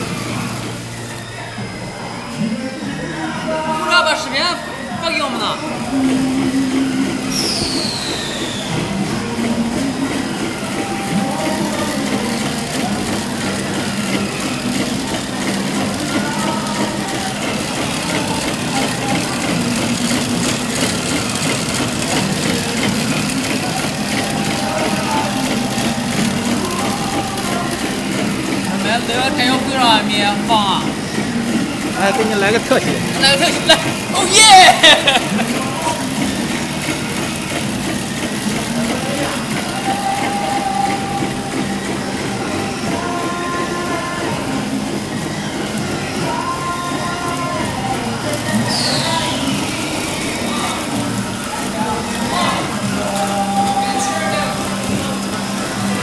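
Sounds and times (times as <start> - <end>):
machinery humming: 0.0 - 56.0
fast machine ticking: 4.0 - 56.0.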